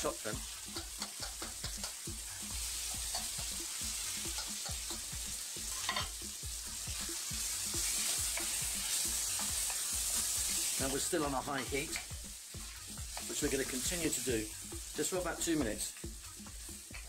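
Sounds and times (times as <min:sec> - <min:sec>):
sauce sizzling in a wok: 0:00.0 - 0:17.0.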